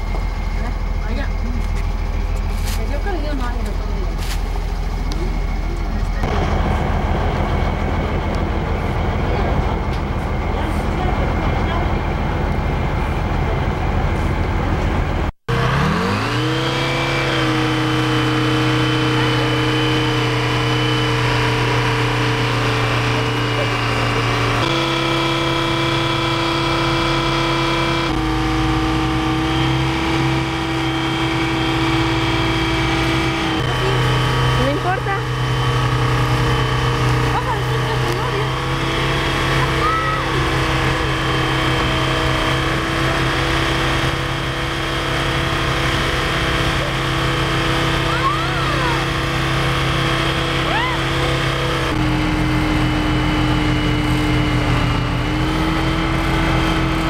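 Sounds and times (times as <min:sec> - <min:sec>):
diesel truck engines running: 0:00.0 - 0:57.0
loud noisy engine rumble: 0:00.0 - 0:57.0
steady machine whine: 0:00.0 - 0:57.0.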